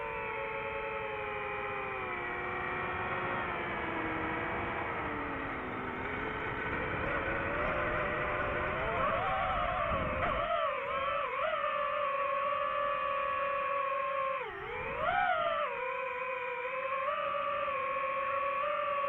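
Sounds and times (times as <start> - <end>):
constant rushing noise: 0.0 - 19.0
quadcopter motors whining: 0.0 - 19.0.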